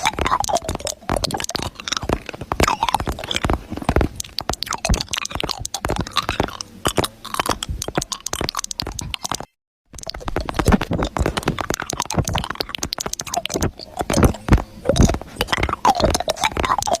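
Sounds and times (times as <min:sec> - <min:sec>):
dense irregular crunching: 0:00.0 - 0:17.0.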